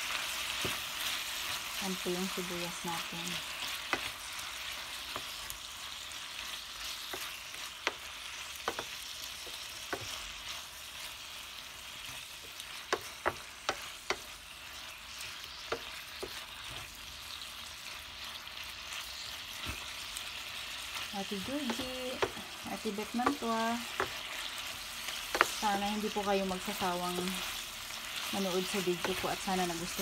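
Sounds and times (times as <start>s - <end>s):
meat and onions sizzling in a pan: 0.0s - 30.0s.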